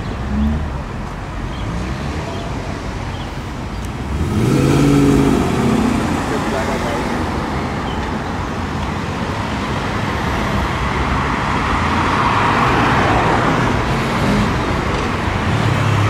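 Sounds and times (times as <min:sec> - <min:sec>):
car engines running: 0:00.0 - 0:16.0
steady traffic noise: 0:00.0 - 0:16.0.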